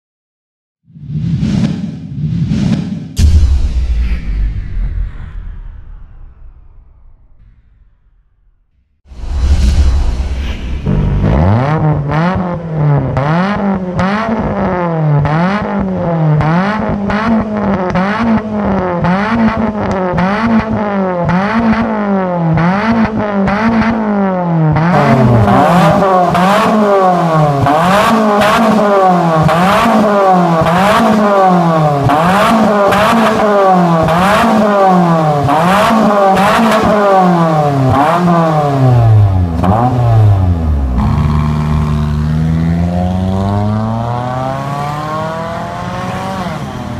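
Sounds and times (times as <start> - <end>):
car engine revving: 9.1 - 46.9.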